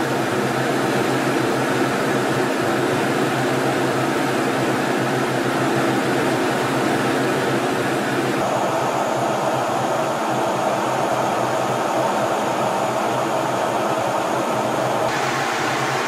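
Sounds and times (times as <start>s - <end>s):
air rush and jet engine noise: 0.0s - 16.0s.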